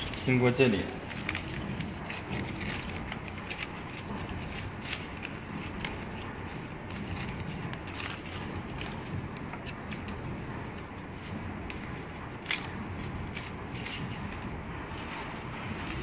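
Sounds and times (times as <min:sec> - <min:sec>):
paper strip rustling and crinkling: 0:00.0 - 0:16.0.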